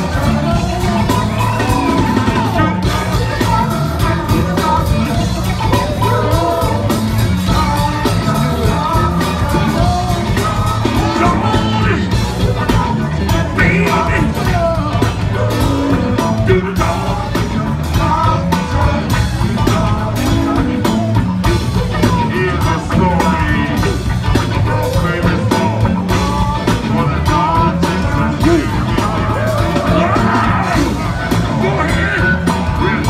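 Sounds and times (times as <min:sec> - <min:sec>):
funk band playing: 0:00.0 - 0:33.0
people singing: 0:00.0 - 0:33.0.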